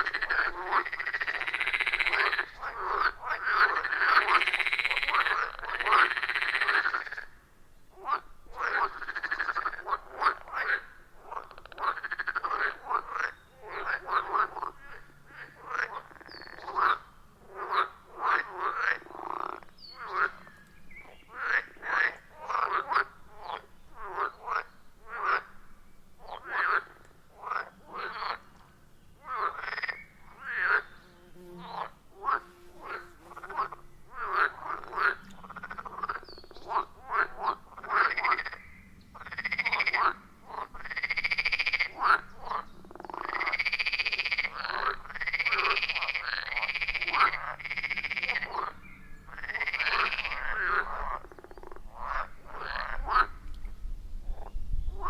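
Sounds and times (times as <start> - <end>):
frogs croaking: 0.0 - 31.0, 31.6 - 53.6, 54.3 - 55.0
long drawn-out frog calls: 0.0 - 31.0, 31.6 - 53.7.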